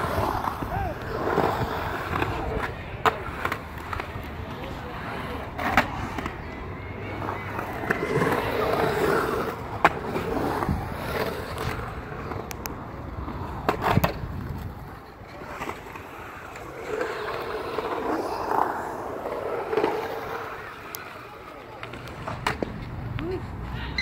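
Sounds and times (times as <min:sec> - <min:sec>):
skateboard wheels rolling on concrete: 0:00.0 - 0:24.0.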